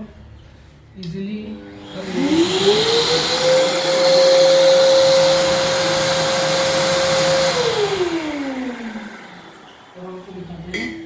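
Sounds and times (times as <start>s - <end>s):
vacuum cleaner motor whine: 1.5s - 10.9s.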